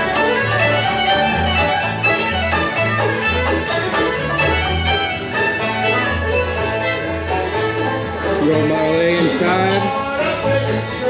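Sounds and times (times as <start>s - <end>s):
bass line: 0.0s - 11.0s
fiddle melody: 0.0s - 11.0s
live bluegrass band: 0.0s - 11.0s.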